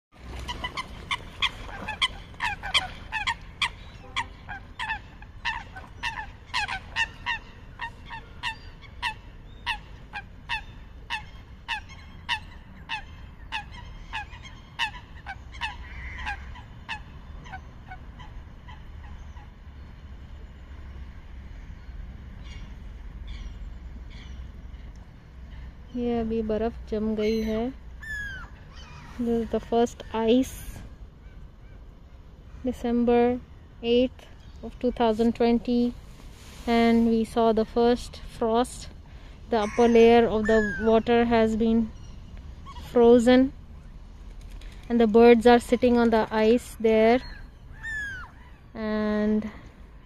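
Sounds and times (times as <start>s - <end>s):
waterbirds calling: 0.1s - 36.0s, 36.8s - 50.0s.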